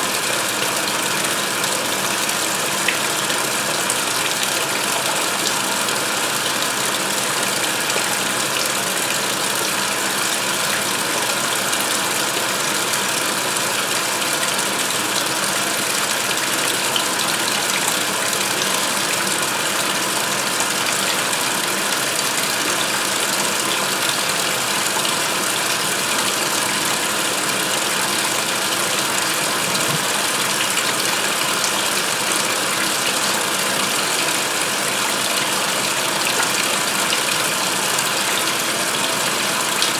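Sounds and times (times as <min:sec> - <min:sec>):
faint machine hum: 0:00.0 - 0:39.9
water rushing into washer tub: 0:00.0 - 0:39.9.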